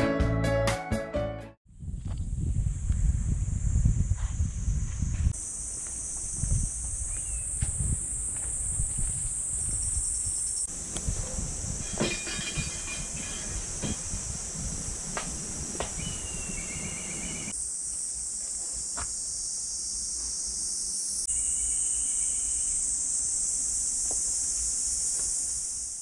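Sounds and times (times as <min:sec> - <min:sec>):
cicadas hissing: 0:01.8 - 0:26.0.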